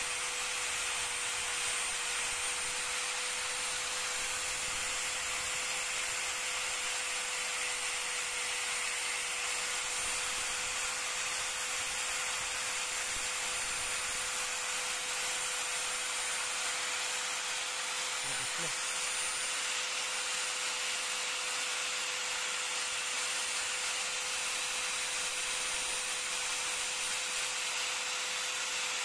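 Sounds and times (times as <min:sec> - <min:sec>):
angle grinder cutting plastic: 0:00.0 - 0:29.0.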